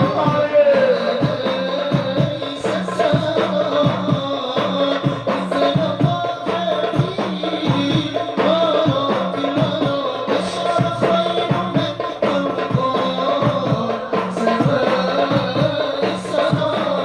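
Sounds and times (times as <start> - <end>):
devotional singing: 0.0 - 17.0
hand drum beat: 0.0 - 17.0.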